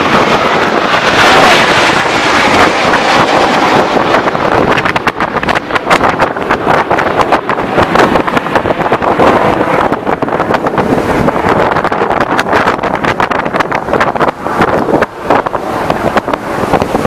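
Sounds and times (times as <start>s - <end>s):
jets roaring overhead: 0.0s - 17.0s
wind buffeting microphone: 0.0s - 17.0s.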